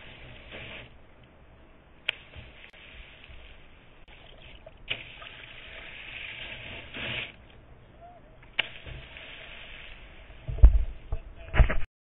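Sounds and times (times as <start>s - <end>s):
paddle strokes splashing: 0.0s - 1.0s, 2.0s - 11.2s
water washing along hull: 0.0s - 1.0s, 2.0s - 11.7s.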